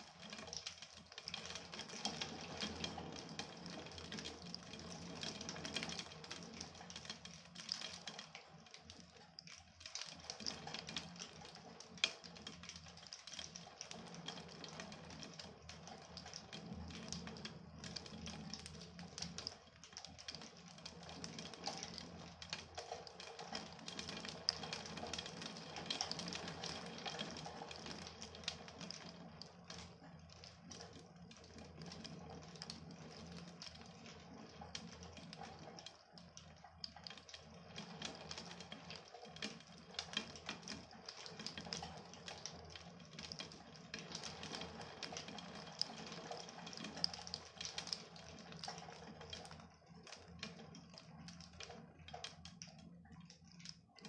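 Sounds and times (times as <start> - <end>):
rain drops on hard surface: 0.0 - 54.0.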